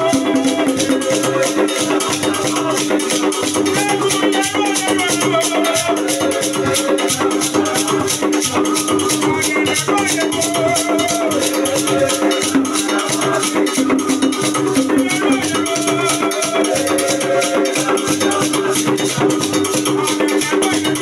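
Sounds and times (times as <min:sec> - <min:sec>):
men singing in unison: 0:00.0 - 0:21.0.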